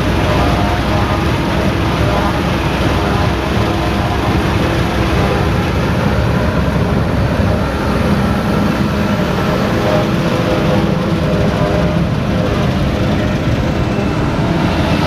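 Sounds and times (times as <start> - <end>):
heavy machinery engine rumbling: 0.0 - 15.0.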